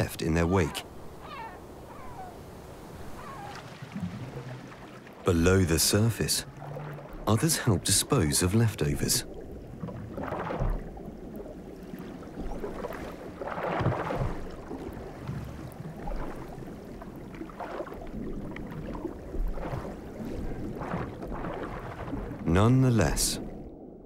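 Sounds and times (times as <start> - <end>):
water swishing: 0.0 - 24.0.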